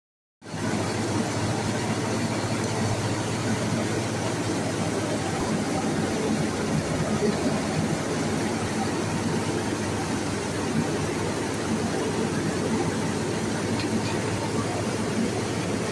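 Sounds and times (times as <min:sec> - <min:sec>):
low steady hum: 0:00.6 - 0:15.9
rice mill machine noise: 0:00.6 - 0:15.9.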